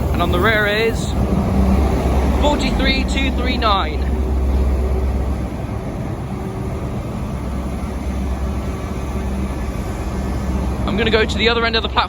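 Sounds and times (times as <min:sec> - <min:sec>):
train diesel engine drone: 0:00.0 - 0:12.0.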